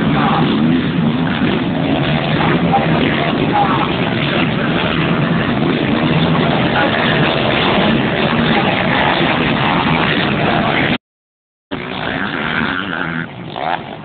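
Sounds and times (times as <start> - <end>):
motocross bikes revving: 0.0 - 11.0, 11.7 - 14.0.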